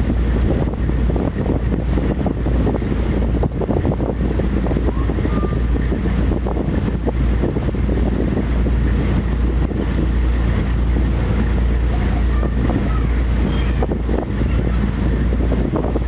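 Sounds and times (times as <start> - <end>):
ferry engine low rumble: 0.0 - 16.0
water: 0.0 - 16.0
wind buffeting microphone: 0.0 - 16.0.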